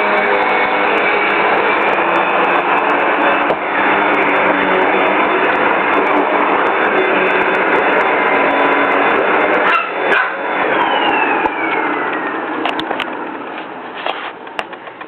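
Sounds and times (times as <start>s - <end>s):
vacuum cleaner running: 0.0s - 14.4s.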